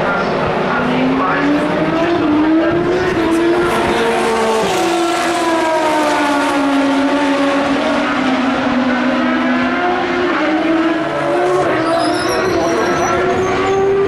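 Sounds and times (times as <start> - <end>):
race car engines at speed: 0.0 - 14.0.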